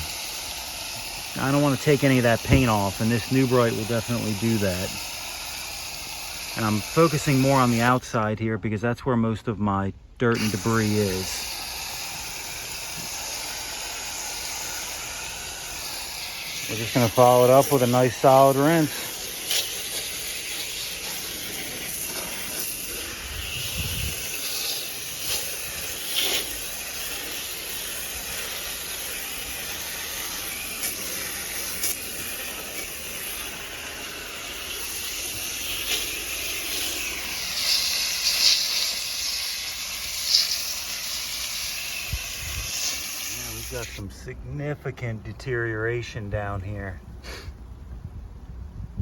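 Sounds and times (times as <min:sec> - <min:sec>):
hose water spraying on coil: 0:00.0 - 0:09.5, 0:10.2 - 0:45.1.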